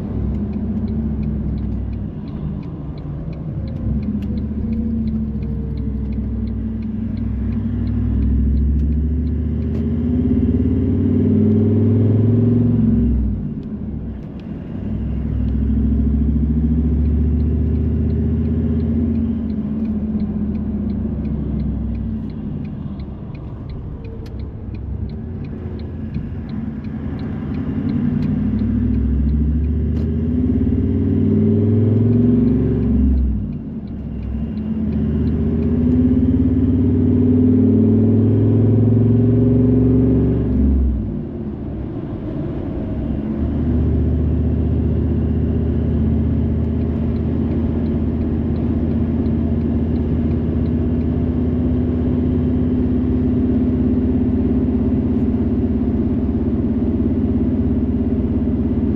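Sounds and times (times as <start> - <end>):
car engine accelerating: 0.0 - 58.9
road noise: 0.0 - 58.9.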